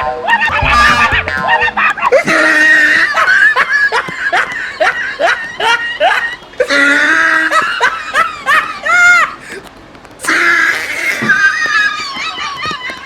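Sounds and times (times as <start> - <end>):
high-pitched laughter: 0.0 - 9.4, 10.2 - 13.0.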